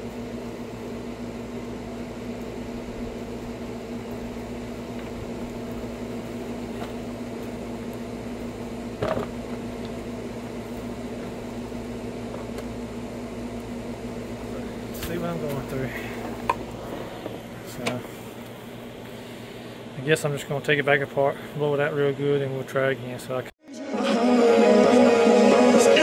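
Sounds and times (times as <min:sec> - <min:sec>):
steady mechanical hum: 0:00.0 - 0:23.6.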